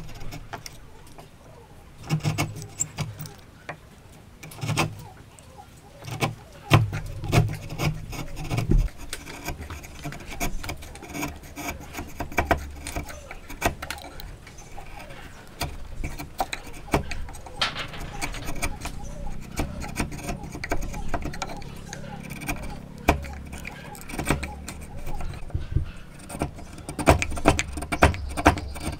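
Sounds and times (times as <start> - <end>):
chisel scraping wood: 0.0 - 1.3, 1.9 - 3.8, 4.4 - 5.2, 5.8 - 28.9.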